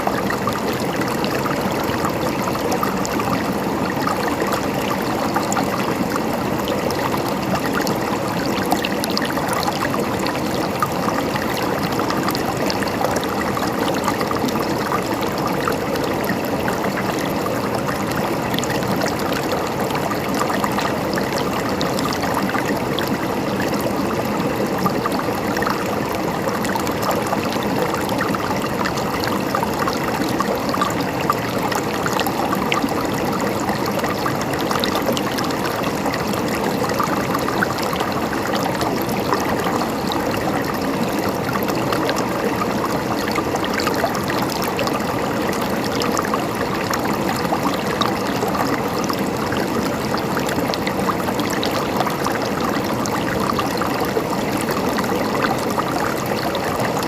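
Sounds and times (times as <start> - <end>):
water gurgling and trickling: 0.0 - 57.0.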